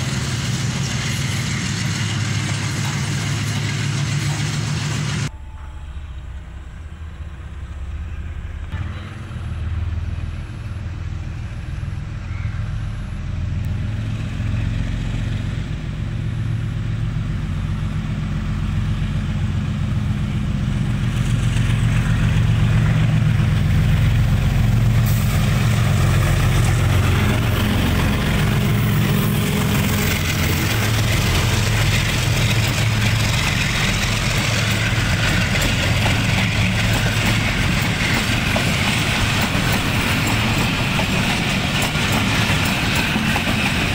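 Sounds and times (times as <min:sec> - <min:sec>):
diesel locomotive engine throttling up: 0:00.0 - 0:43.9
train rushing noise: 0:00.0 - 0:43.9.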